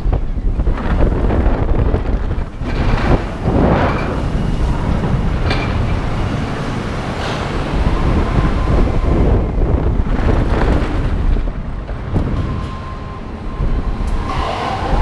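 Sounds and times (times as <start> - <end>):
roller coaster wheels rumbling: 0.0 - 15.0
wind buffeting microphone: 0.0 - 15.0.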